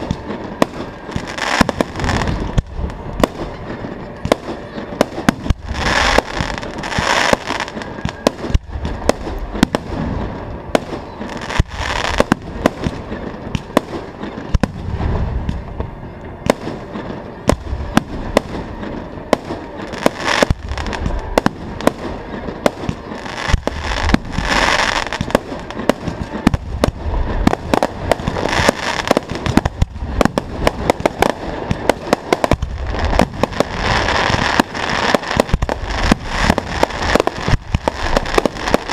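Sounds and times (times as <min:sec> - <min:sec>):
fireworks bursting: 0:00.0 - 0:38.9
fireworks hissing and crackling: 0:00.0 - 0:38.9.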